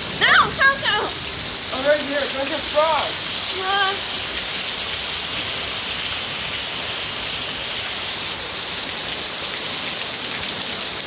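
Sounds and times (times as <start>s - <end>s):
heavy rain downpour: 0.0s - 11.0s.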